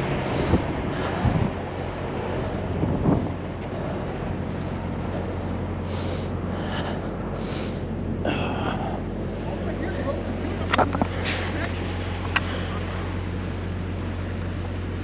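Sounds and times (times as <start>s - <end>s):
outdoor noise: 0.0s - 15.0s
truck engine idling: 0.0s - 15.0s.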